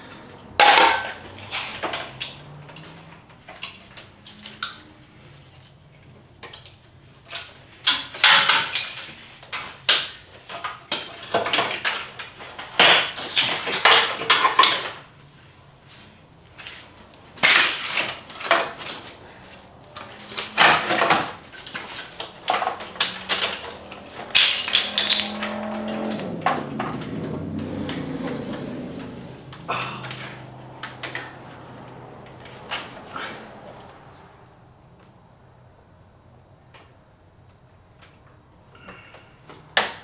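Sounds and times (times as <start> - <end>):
car parts and tools clattering: 0.0 - 40.0.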